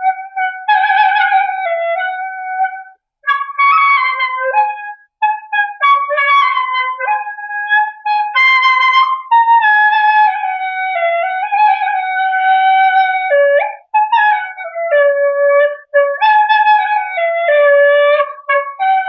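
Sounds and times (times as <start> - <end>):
solo wind instrument melody: 0.0 - 19.0.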